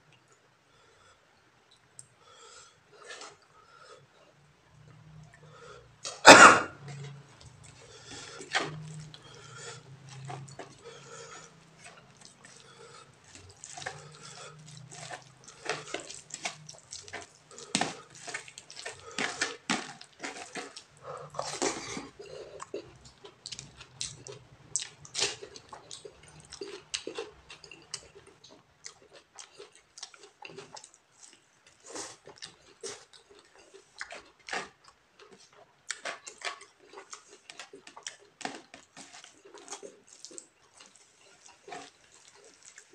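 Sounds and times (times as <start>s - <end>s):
chewing and lip smacking: 6.8s - 42.9s
fingers mixing rice on a plate: 7.4s - 28.3s, 29.2s - 42.9s.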